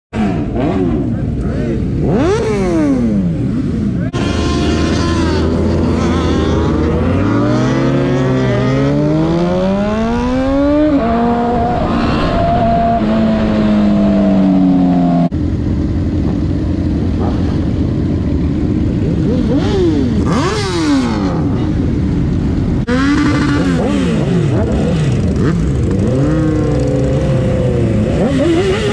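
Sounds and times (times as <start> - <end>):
motorcycle engine accelerating: 0.2 - 28.9.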